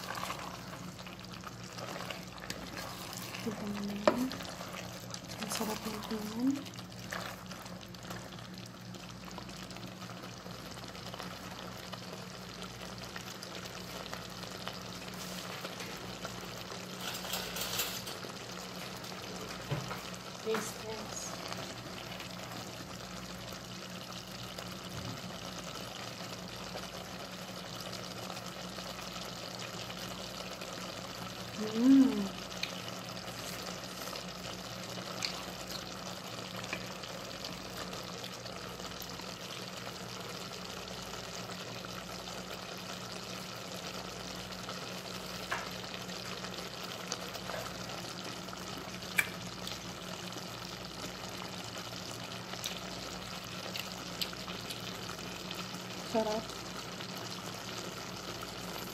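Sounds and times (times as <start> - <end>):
stew simmering and sizzling: 0.0 - 58.9.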